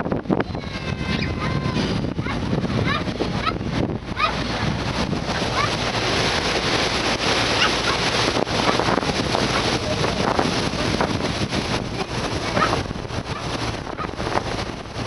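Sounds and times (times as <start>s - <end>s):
sea water rushing past ship: 0.0s - 15.0s
wind buffeting microphone: 0.0s - 15.0s.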